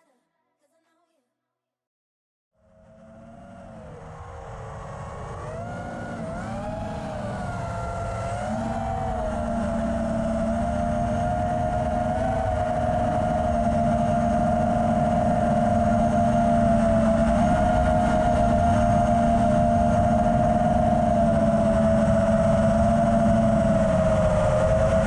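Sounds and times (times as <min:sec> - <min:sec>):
motor humming: 0:02.6 - 0:25.0.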